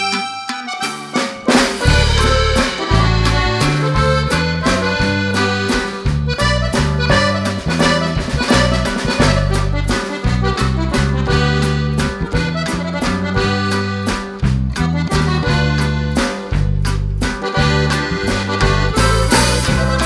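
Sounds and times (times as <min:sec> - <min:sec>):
instrumental music with beat: 0:00.0 - 0:20.0.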